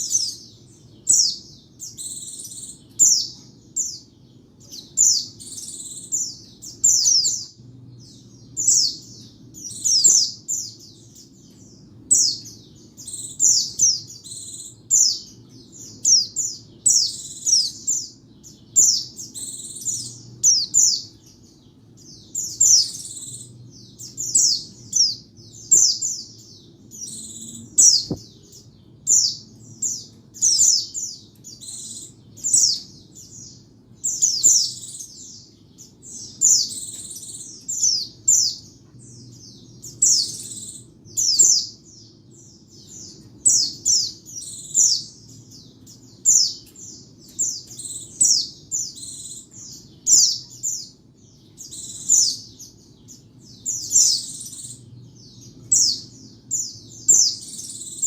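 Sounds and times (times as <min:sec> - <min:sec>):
bird chirping: 0:00.0 - 0:58.0
faint low hum: 0:00.0 - 0:58.0.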